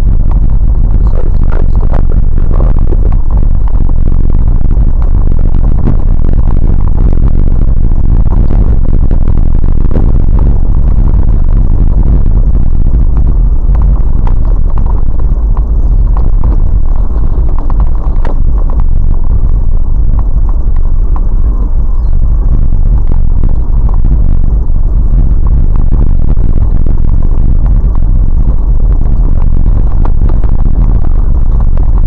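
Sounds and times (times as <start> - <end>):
vehicle low rumble: 0.0 - 32.0.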